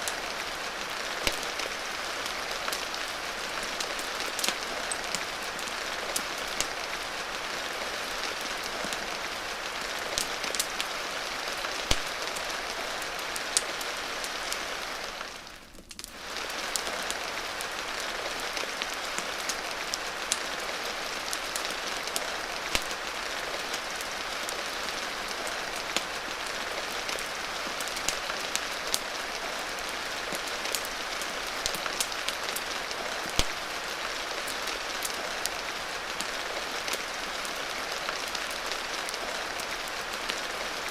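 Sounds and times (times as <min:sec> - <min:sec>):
fireplace crackling: 0:00.0 - 0:40.9
steady rain: 0:00.0 - 0:40.9.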